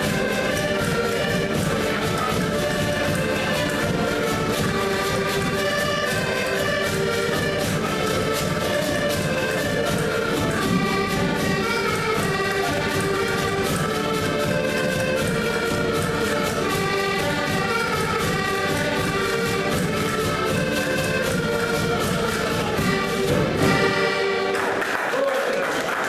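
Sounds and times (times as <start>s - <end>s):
accordions playing chords: 0.0s - 25.8s.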